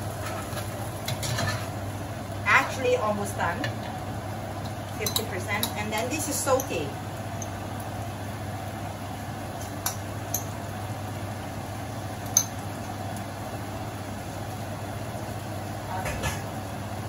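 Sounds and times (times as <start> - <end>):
wok hissing on gas burner: 0.0 - 17.0.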